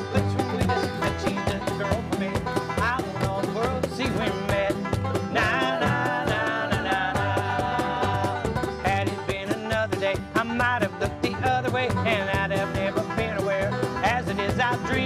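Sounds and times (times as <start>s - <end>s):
acoustic bluegrass band playing: 0.0s - 15.0s.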